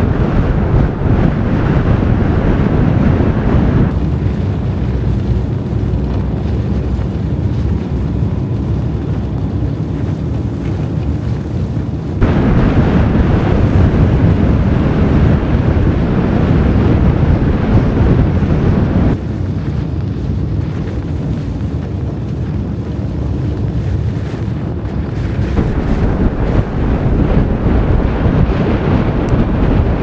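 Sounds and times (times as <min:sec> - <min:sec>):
blizzard wind buffeting microphone: 0:00.0 - 0:30.0.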